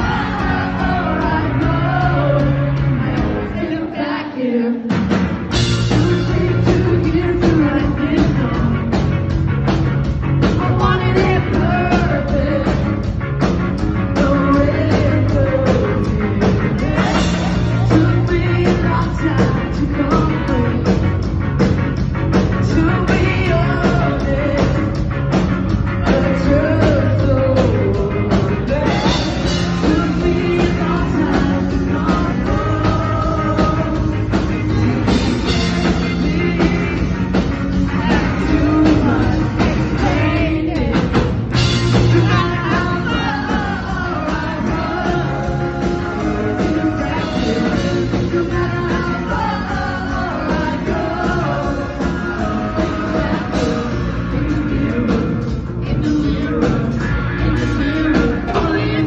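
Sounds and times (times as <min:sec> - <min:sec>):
woman singing lead: 0:00.0 - 0:09.1, 0:10.4 - 0:13.2, 0:14.0 - 0:21.1, 0:22.6 - 0:25.1, 0:26.0 - 0:59.0
live ska-punk band: 0:00.0 - 0:59.0.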